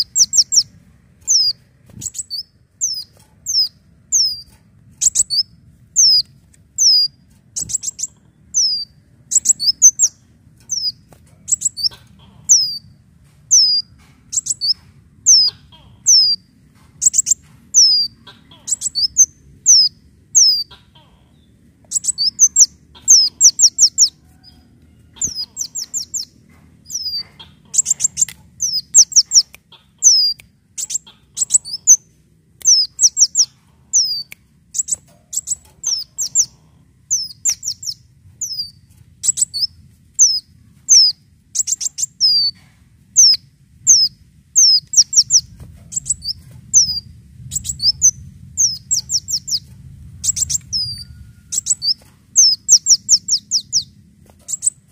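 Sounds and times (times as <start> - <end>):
bird singing high sharp chirps: 0.0 - 0.7, 1.3 - 12.9, 13.5 - 20.7, 21.9 - 24.2, 25.2 - 26.3, 26.9 - 32.0, 32.6 - 36.5, 37.1 - 42.6, 43.2 - 54.8.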